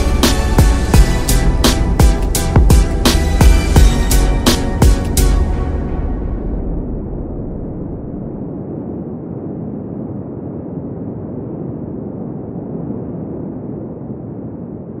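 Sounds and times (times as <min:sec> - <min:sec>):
dull rumbling: 0:00.0 - 0:12.7.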